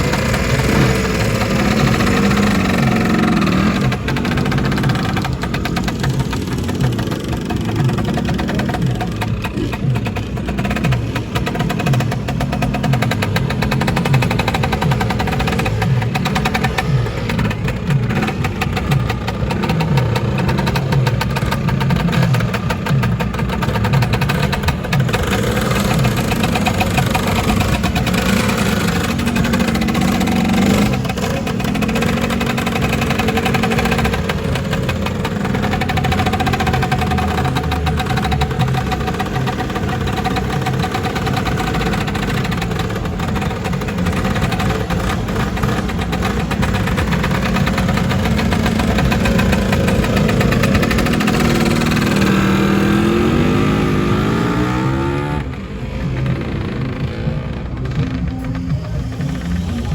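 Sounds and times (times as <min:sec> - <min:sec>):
scooter engines revving: 0:00.0 - 0:59.9.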